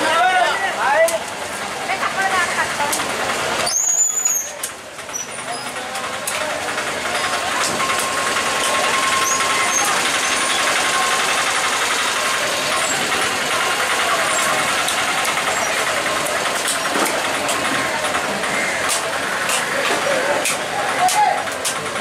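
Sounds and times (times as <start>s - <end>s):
engine and traffic noise: 0.0s - 22.0s.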